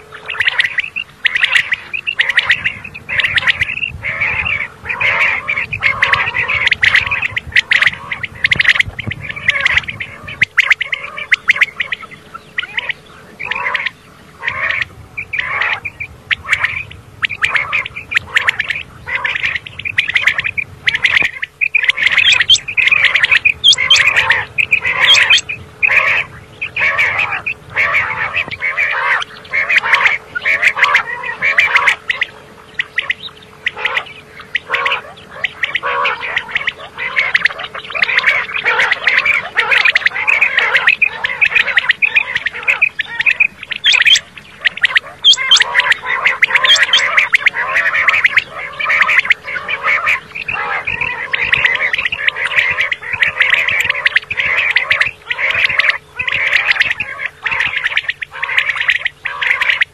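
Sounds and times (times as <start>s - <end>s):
quail calling: 0.0s - 59.9s.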